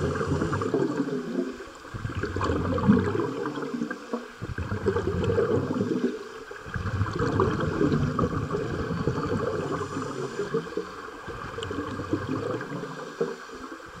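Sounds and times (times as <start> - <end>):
underwater exhalation bubbles: 0.0 - 14.0.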